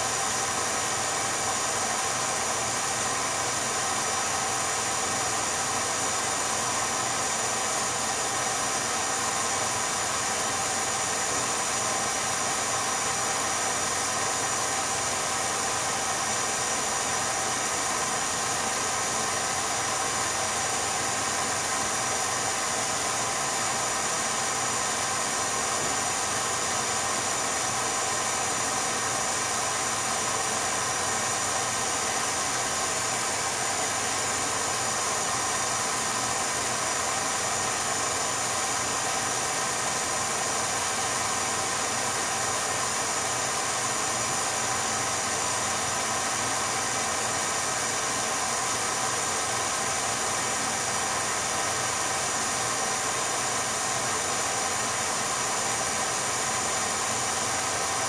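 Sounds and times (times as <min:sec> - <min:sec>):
film projector whirring: 0:00.0 - 0:58.0.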